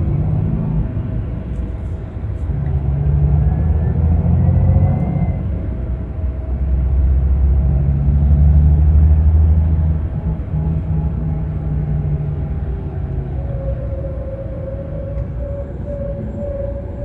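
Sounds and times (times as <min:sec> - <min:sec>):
diesel coach engine droning: 0:00.0 - 0:17.0.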